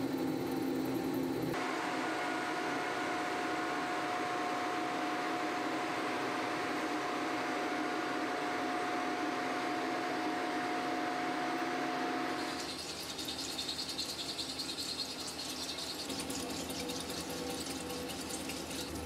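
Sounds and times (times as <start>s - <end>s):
milling machine whirring: 0.0s - 19.0s.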